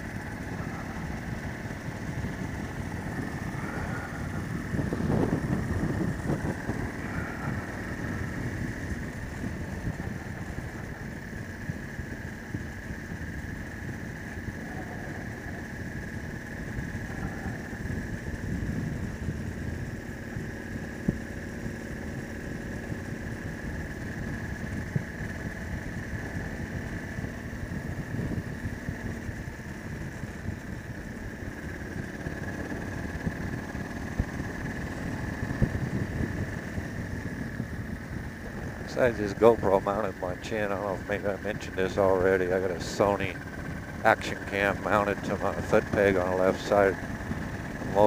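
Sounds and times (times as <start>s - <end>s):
high whine: 0.0s - 48.0s
motorcycle engine cruising: 0.0s - 48.0s
road and wind rumble: 0.0s - 48.0s.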